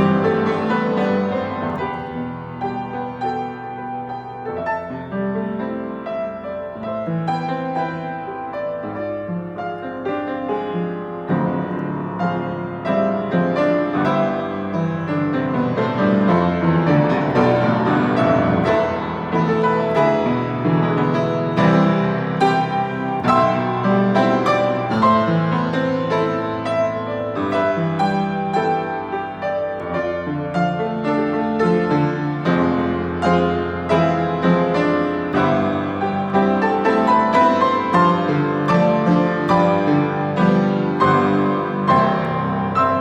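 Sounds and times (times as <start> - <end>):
piano playing a hymn: 0.0 - 43.0.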